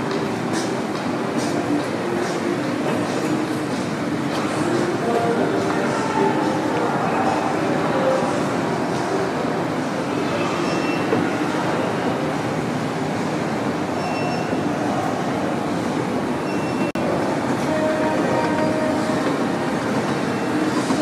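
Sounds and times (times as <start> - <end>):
indoor atrium hum: 0.0 - 21.0.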